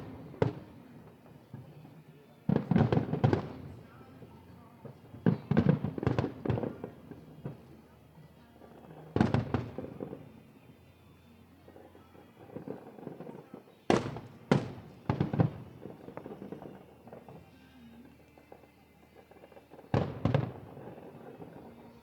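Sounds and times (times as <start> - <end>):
fireworks bursting: 0.0 - 8.0, 8.6 - 10.9, 11.7 - 22.0
fireworks crackle and rumble: 0.0 - 22.0.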